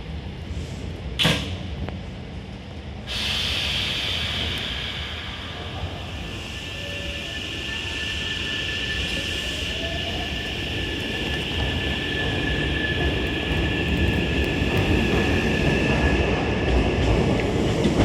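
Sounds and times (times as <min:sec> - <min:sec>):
train rumble: 0:00.0 - 0:18.0
electric train inverter whine: 0:01.4 - 0:17.8.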